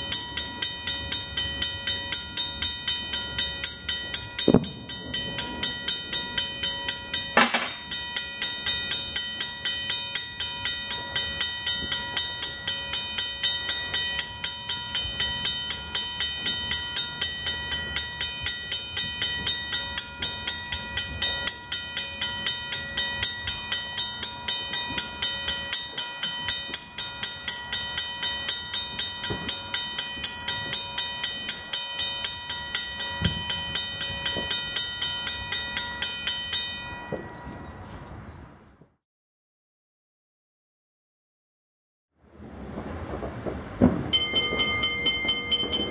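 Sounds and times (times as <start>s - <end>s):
railroad crossing bell ringing: 0.0s - 38.3s, 44.1s - 45.9s.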